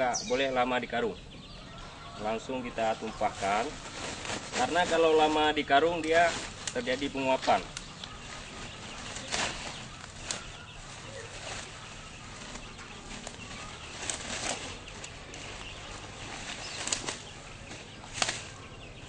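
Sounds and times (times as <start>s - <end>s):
plastic sack and plants rustling: 2.2s - 19.0s.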